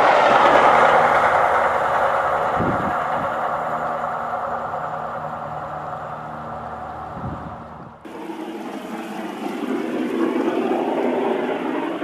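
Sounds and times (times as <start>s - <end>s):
steady rushing noise: 0.0s - 12.0s
train coaches rushing rumble: 0.0s - 12.0s.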